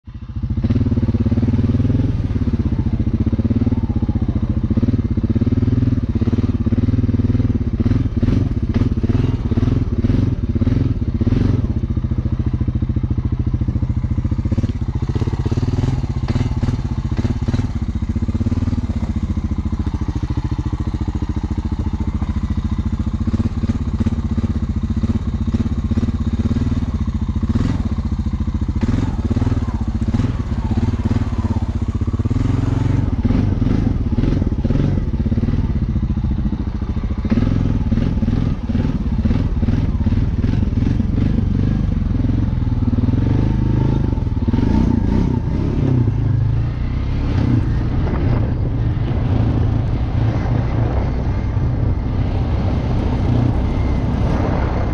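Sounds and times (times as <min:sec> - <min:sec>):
atv engine running: 0:00.1 - 0:54.9.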